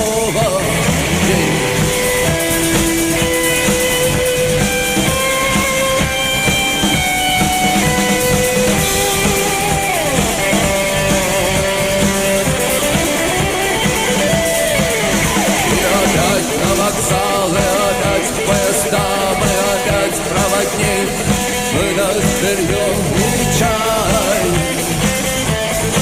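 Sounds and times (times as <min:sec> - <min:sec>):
bass: 0:00.0 - 0:26.0
drum kit beat: 0:00.0 - 0:26.0
lead guitar melody: 0:00.3 - 0:26.0.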